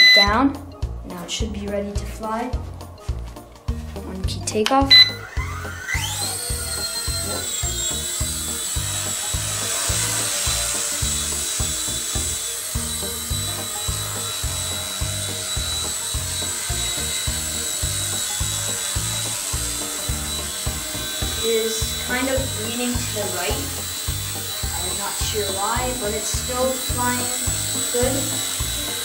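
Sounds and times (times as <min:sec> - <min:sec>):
background music with beat: 0:00.0 - 0:29.0
toy helicopter rotor whining: 0:04.9 - 0:29.0.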